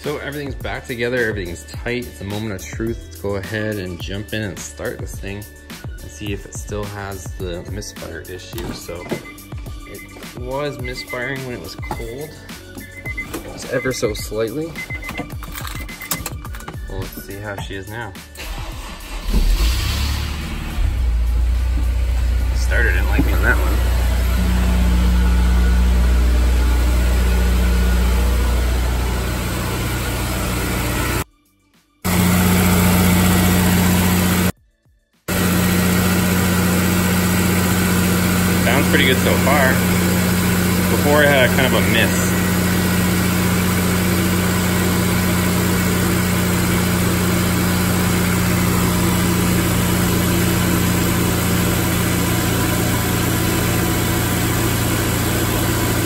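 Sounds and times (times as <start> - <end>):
car engine idling: 7.4 - 31.2, 32.1 - 34.5, 35.3 - 56.0.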